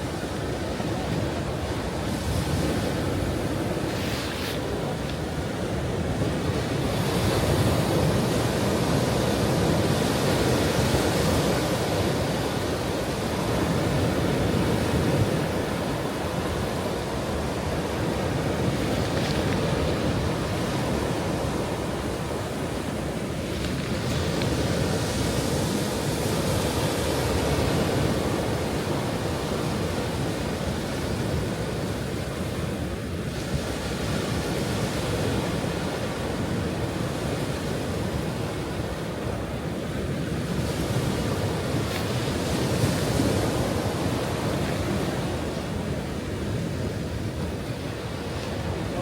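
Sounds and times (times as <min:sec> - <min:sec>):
ocean waves breaking on shore: 0:00.0 - 0:49.0.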